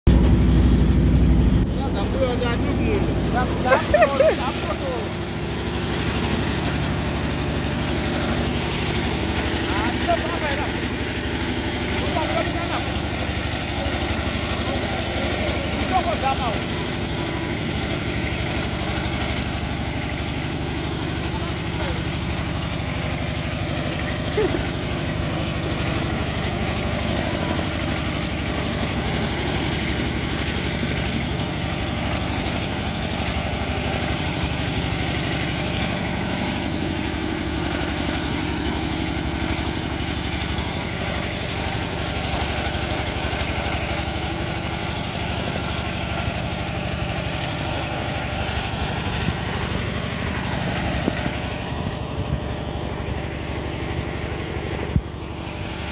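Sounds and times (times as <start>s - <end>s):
walking tractor engine running: 0.0s - 55.9s.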